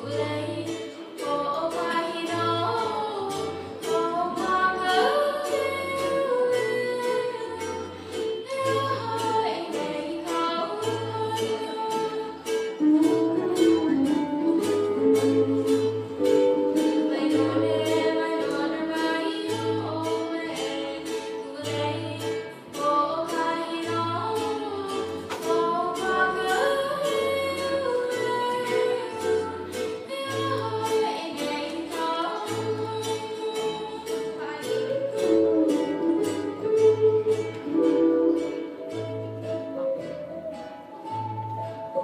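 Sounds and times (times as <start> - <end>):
person singing: 0.0 - 39.8
ukuleles strumming: 0.0 - 42.0
steel guitar melody: 1.0 - 42.0.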